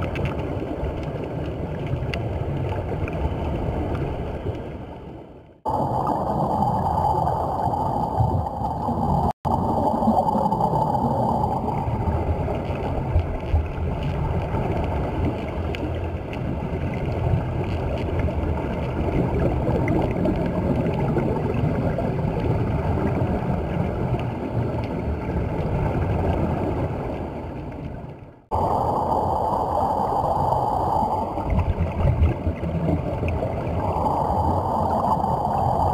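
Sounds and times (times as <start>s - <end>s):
streaming air bubbles: 0.0s - 4.9s, 5.5s - 35.9s
underwater rushing water: 0.0s - 35.9s.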